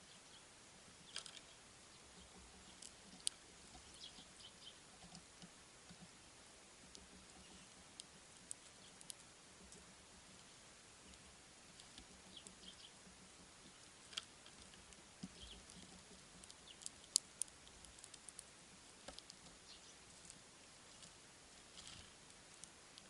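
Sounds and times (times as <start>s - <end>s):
birds pecking at seeds: 0.0s - 23.0s.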